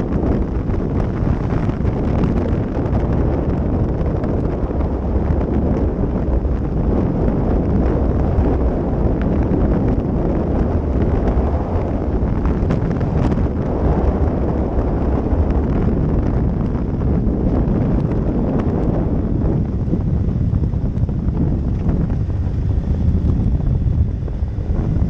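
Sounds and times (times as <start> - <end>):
motorcycle engine and tyre noise: 0.0 - 25.0
wind buffeting microphone: 0.0 - 25.0.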